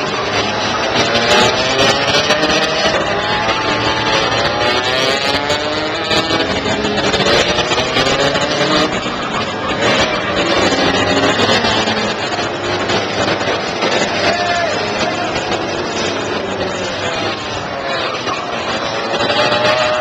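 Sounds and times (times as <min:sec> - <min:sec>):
kart engines revving: 0:00.0 - 0:20.0.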